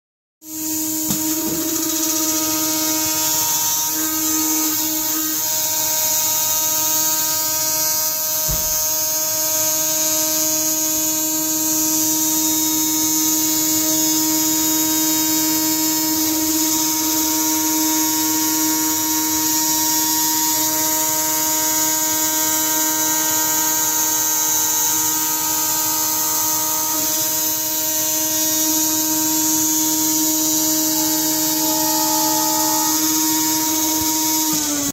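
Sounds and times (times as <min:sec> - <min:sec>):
router spindle whining: 0:00.5 - 0:34.9.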